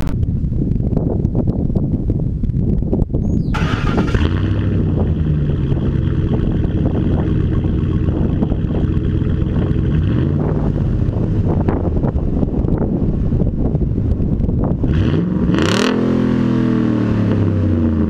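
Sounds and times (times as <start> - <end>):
truck engine idling and revving: 3.5 - 18.0.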